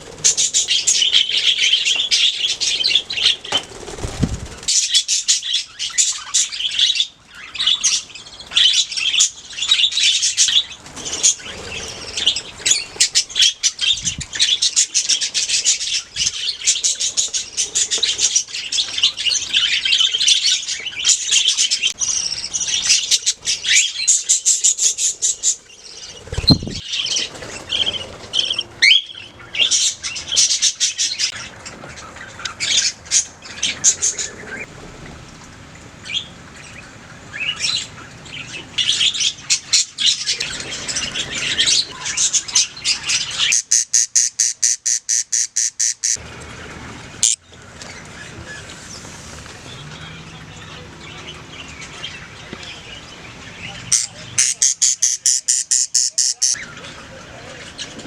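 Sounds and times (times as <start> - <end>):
budgerigars chirping and chattering: 0.0 - 34.7, 36.0 - 46.2, 47.2 - 58.0.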